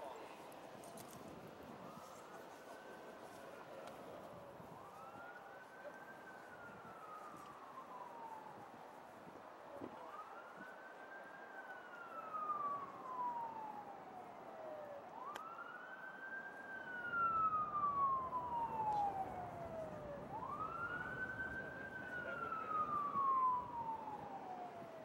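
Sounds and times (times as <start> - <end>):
faint siren wailing: 0.0 - 25.0.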